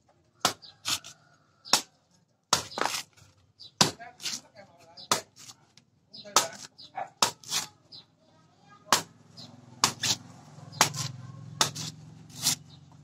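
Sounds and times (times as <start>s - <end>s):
cleaver chopping coconut husk: 0.3s - 3.2s, 3.8s - 5.6s, 6.2s - 7.8s, 8.8s - 13.0s.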